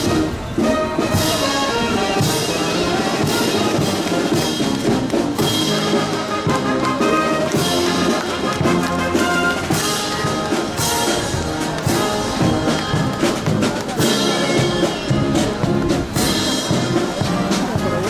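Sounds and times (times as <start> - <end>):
drums and cymbals: 0.0 - 18.0
marching band playing: 0.0 - 18.0.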